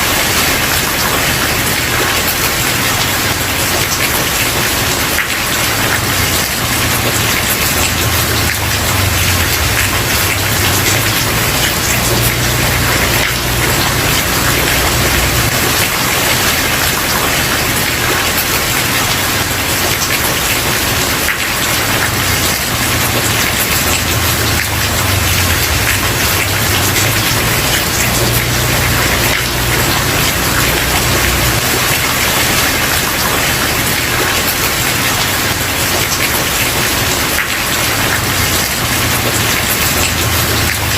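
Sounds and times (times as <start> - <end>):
rain on wooden porch: 0.0 - 40.9.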